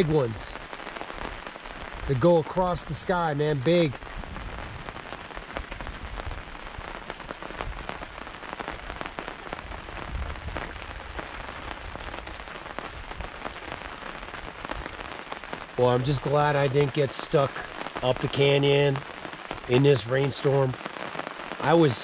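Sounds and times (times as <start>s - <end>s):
heavy rain on awning: 0.0s - 22.0s.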